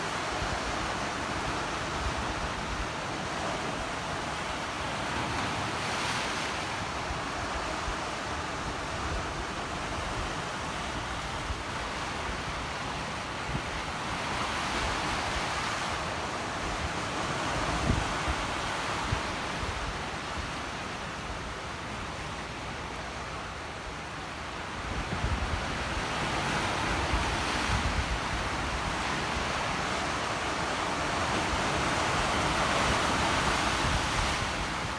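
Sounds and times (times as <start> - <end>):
sea waves surging: 0.0 - 34.9.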